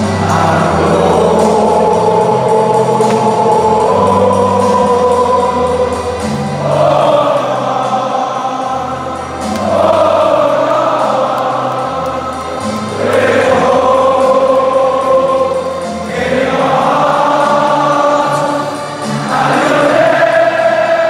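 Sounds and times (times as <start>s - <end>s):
choir singing long held notes: 0.0s - 21.0s.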